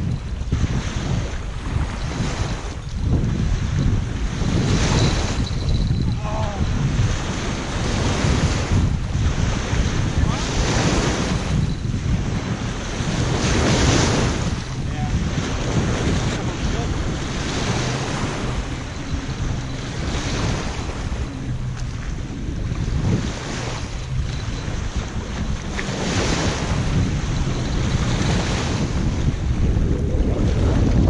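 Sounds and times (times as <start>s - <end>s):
lake waves washing onto shore: 0.0s - 31.0s
wind buffeting microphone: 0.0s - 31.0s.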